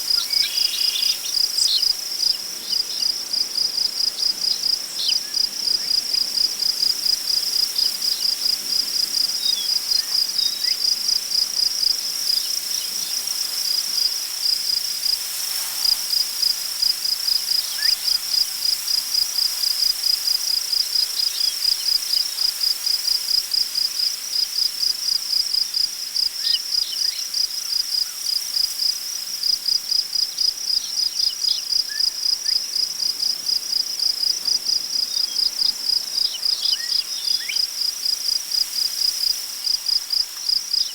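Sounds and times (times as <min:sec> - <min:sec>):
crickets chirping: 0:00.0 - 0:40.9
wind through tall grass: 0:00.0 - 0:40.9.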